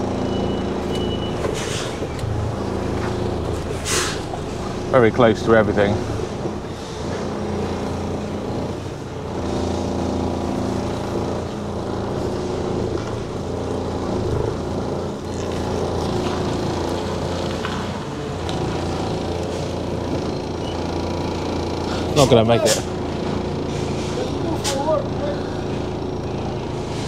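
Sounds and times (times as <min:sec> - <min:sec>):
diesel engine running at low revs: 0:00.0 - 0:27.0.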